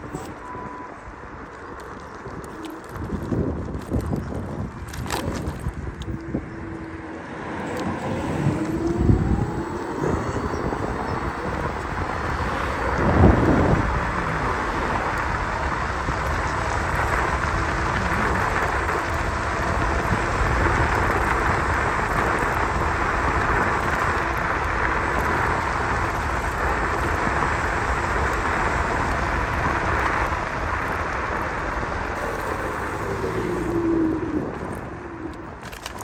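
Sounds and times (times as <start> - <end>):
tyre noise: 0.0 - 36.0
wind rushing: 3.1 - 35.6
electric motor whine: 4.9 - 30.7, 32.1 - 36.0.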